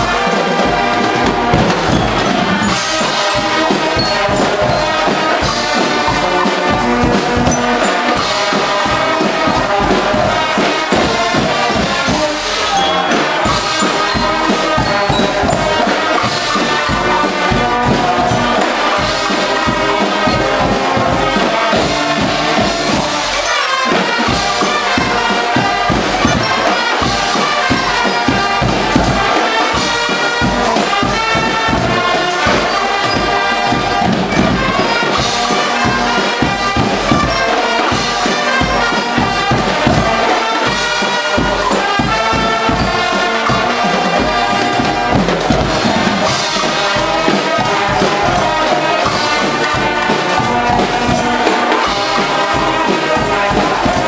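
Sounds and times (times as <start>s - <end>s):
brass band playing: 0.0s - 54.0s
percussion beat: 0.0s - 54.0s.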